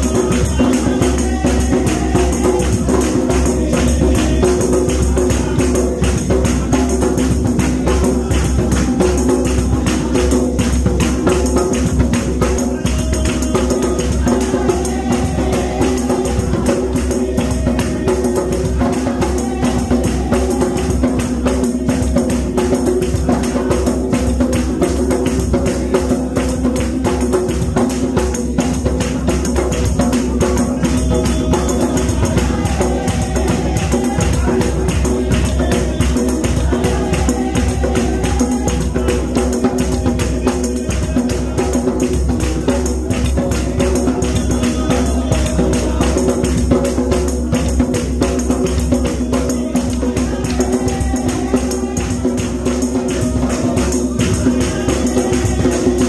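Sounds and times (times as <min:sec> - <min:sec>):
jingling percussion rhythm: 0:00.0 - 0:56.0
voices singing along: 0:00.0 - 0:56.0.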